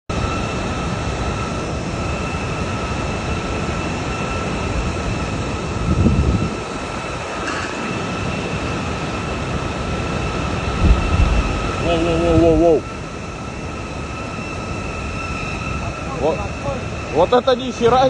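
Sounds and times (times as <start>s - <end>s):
faint high whine: 0.1s - 18.0s.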